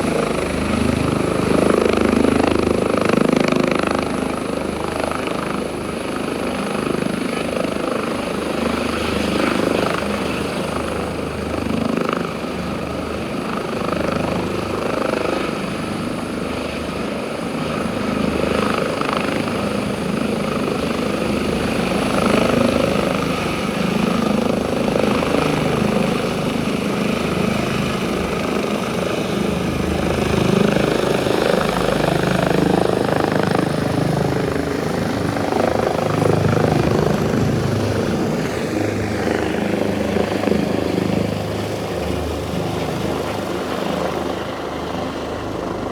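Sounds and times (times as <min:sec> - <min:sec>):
helicopter engines and rotor: 0:00.0 - 0:45.9.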